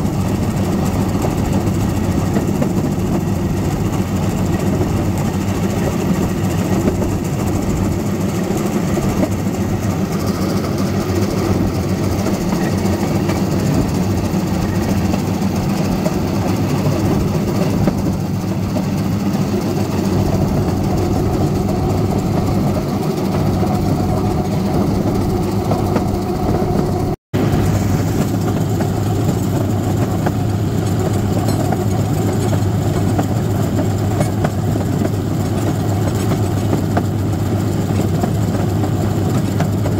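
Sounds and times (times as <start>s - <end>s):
railcart engine droning: 0.0s - 39.9s.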